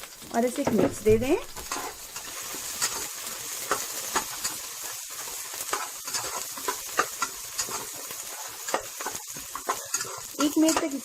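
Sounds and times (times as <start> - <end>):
onion sizzling in hot oil: 0.0 - 11.0
utensil scraping pan: 1.4 - 11.0.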